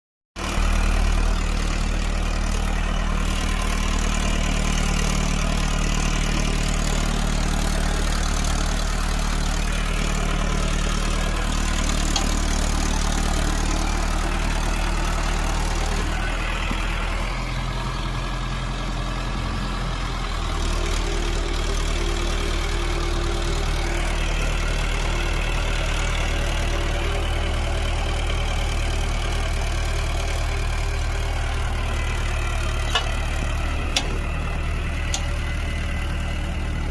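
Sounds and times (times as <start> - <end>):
tractor diesel engine running: 0.4 - 36.9.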